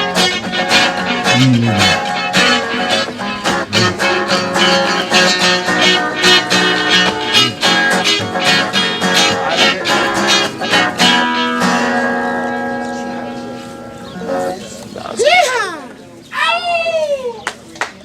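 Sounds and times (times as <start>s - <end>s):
acoustic guitar playing: 0.0s - 14.6s.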